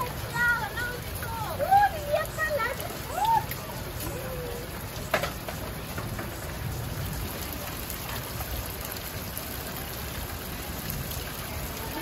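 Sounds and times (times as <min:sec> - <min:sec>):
heavy rain on gravel and metal: 0:00.0 - 0:12.0.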